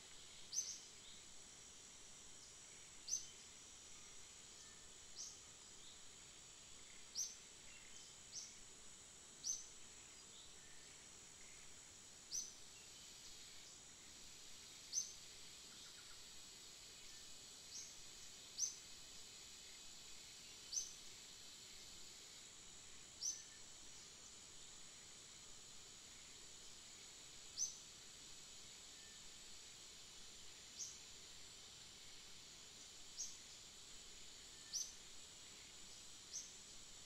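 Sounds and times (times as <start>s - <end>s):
insect-like hiss: 0.0s - 37.0s.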